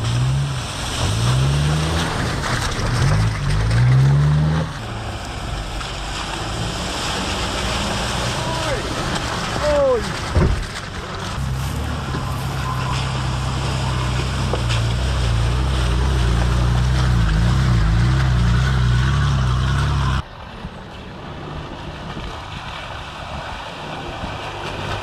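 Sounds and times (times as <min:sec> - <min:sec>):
faint engine: 0:00.0 - 0:25.0
outdoor noise: 0:00.0 - 0:25.0
vehicle engine running under load: 0:00.0 - 0:25.0.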